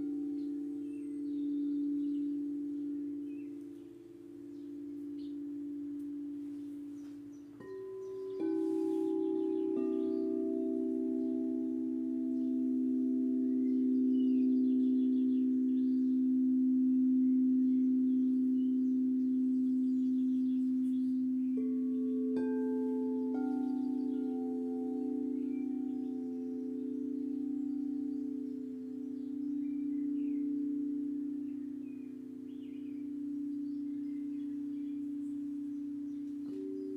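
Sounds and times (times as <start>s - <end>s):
faint bird chirps: 0.0s - 36.9s
singing bowls ringing: 0.0s - 36.9s.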